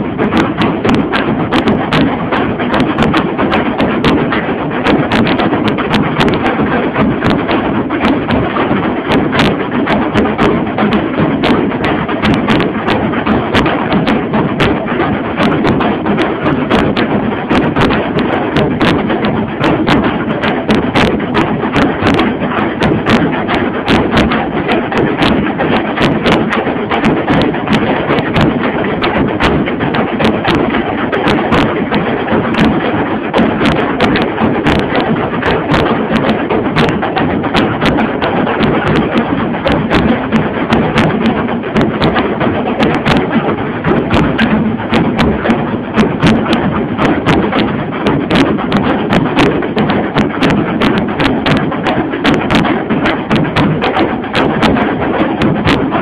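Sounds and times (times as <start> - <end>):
drums beating fast rhythm: 0.0 - 56.0.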